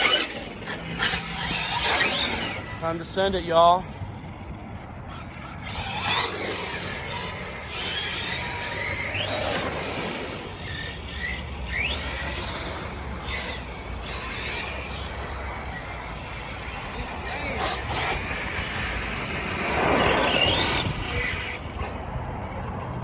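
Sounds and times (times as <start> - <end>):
toy truck electric motor whining: 0.0 - 23.0.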